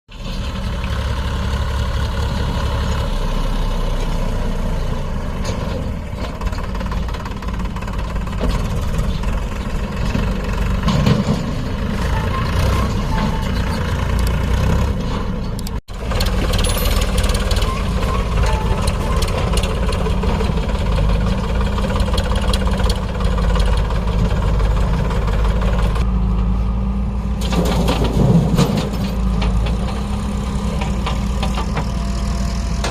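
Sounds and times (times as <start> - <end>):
heavy diesel engines under load: 0.1 - 32.9.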